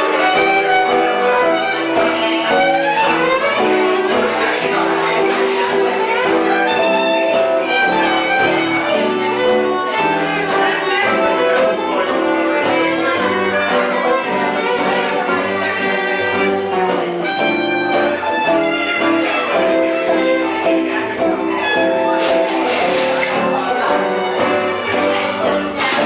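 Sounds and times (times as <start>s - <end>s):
band accompaniment: 0.0s - 26.0s
violin melody: 0.0s - 26.0s.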